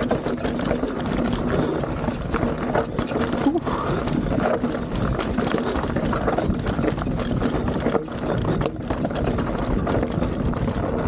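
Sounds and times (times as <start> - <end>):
bike rattling and knocking: 0.0 - 11.0
constant rushing noise: 0.0 - 11.0
tyres rolling over stones: 0.0 - 11.0.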